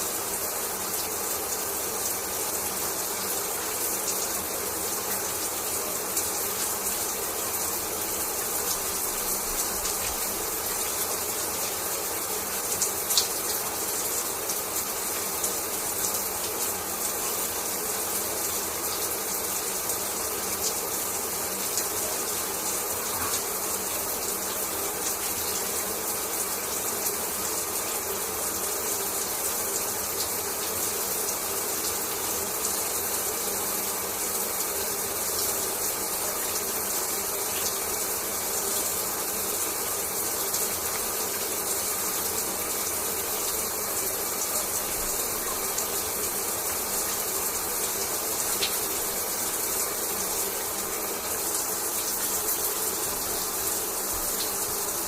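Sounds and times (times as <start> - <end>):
shower water spraying: 0.0 - 55.0.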